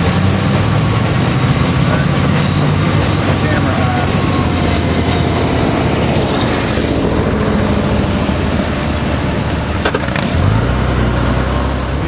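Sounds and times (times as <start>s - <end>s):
low engine hum: 0.0s - 12.0s
train rumbling over steel bridge: 0.0s - 12.0s.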